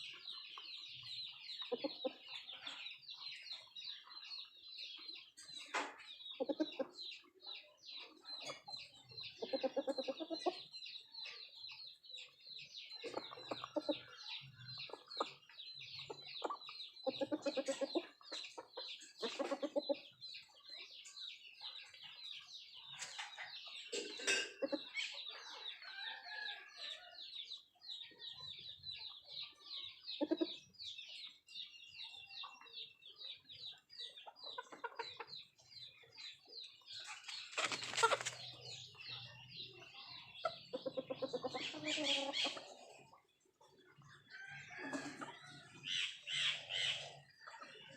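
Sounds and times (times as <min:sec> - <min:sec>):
chickens clucking: 0:00.0 - 0:47.9.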